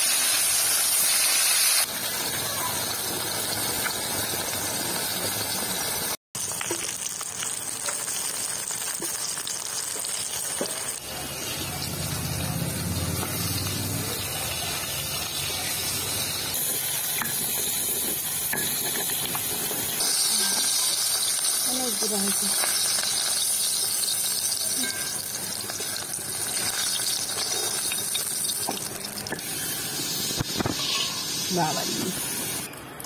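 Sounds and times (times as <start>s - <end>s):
fish sizzling in hot oil: 0.0s - 32.8s.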